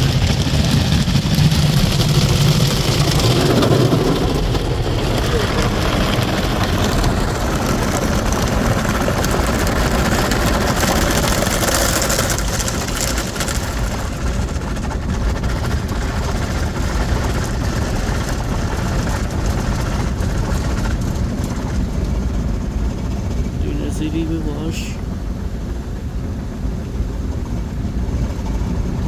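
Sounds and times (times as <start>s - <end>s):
car wash low rumble: 0.0s - 29.0s.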